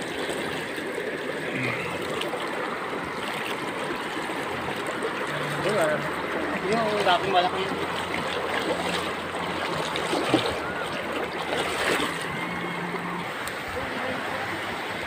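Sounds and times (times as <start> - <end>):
river running over rocks: 0.0 - 15.0.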